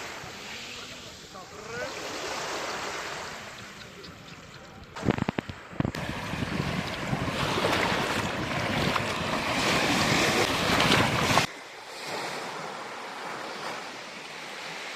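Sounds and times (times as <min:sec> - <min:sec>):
sea waves washing onto shore: 0:00.0 - 0:14.9.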